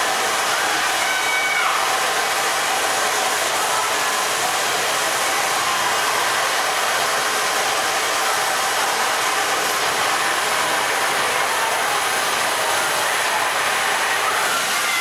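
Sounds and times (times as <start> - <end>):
air blowers rushing: 0.0 - 15.0.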